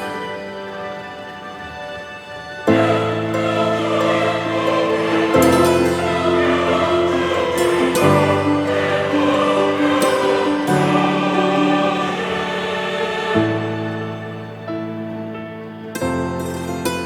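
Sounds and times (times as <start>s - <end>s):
choir singing slow chords: 0.0s - 16.7s.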